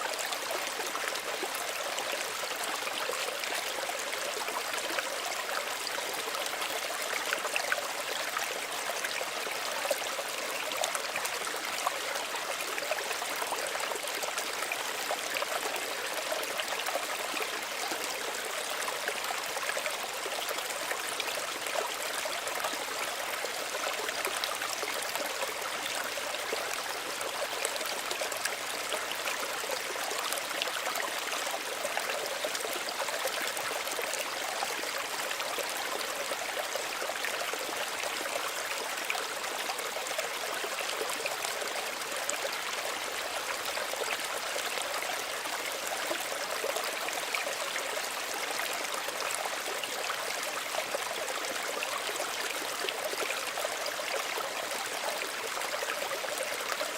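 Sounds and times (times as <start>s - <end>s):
stream trickling and babbling: 0.0s - 56.9s.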